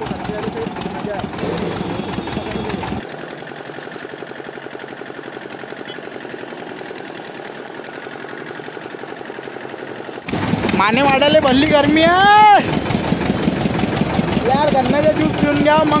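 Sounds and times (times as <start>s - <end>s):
sugarcane juice crusher running: 0.0s - 16.0s.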